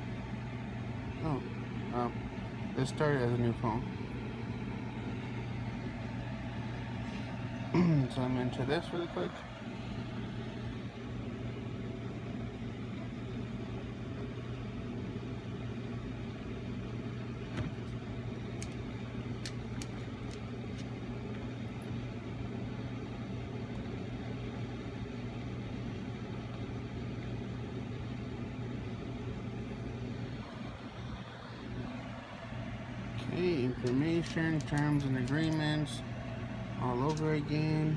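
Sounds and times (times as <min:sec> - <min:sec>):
low mechanical hum: 0:00.0 - 0:37.9.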